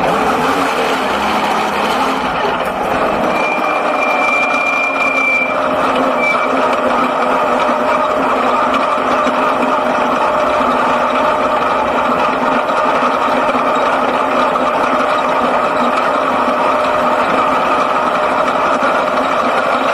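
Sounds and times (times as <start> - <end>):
race car engine droning: 0.0 - 19.9.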